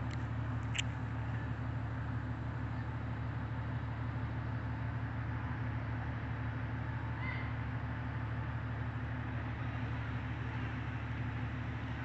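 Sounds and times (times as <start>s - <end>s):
fire truck engines idling: 0.0s - 12.0s.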